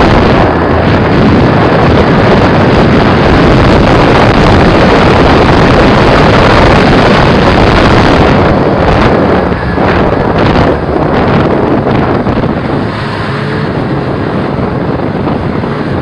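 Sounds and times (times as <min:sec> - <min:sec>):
snowmobile engine running: 0:00.0 - 0:16.0
wind buffeting microphone: 0:00.0 - 0:16.0.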